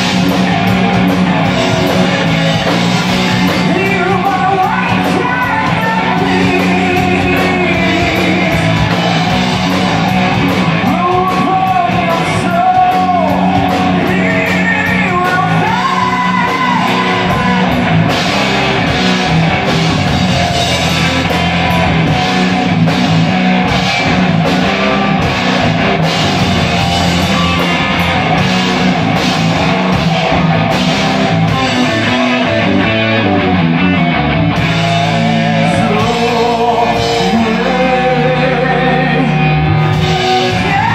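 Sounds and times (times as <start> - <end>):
bass guitar: 0.0 - 40.9
distorted electric guitars: 0.0 - 40.9
drum kit: 0.0 - 40.9.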